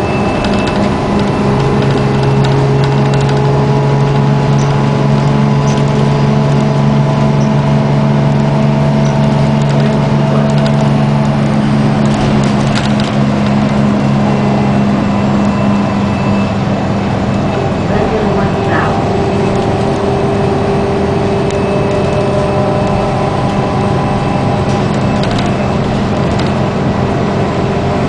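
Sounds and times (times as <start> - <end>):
bus engine humming: 0.0 - 28.0.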